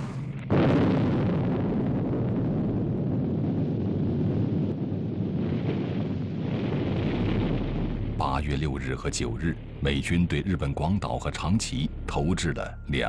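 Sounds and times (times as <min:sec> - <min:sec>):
heavy rumble of explosions: 0:00.0 - 0:13.0.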